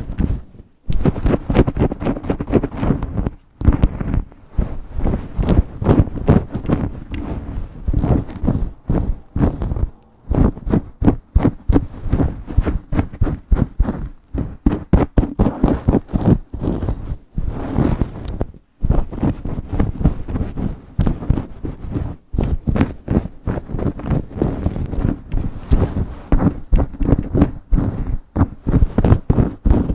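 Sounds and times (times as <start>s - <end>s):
nails scratching through hair: 0.0s - 29.9s.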